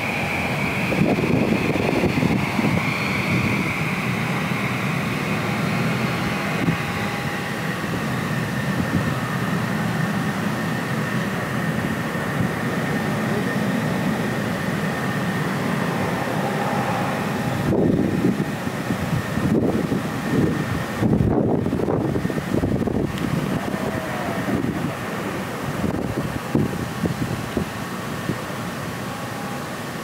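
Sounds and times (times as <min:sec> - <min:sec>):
jet engines whining: 0:00.0 - 0:30.0.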